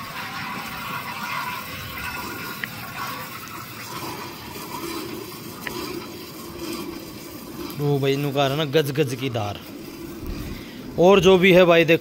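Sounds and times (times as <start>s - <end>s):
milk squirting into steel bucket: 0.0s - 11.7s.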